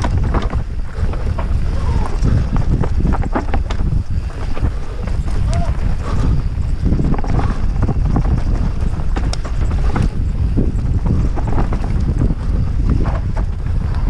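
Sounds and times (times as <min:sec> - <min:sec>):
bike knocking and rattling: 0:00.0 - 0:14.0
wind rumble on microphone: 0:00.0 - 0:14.0.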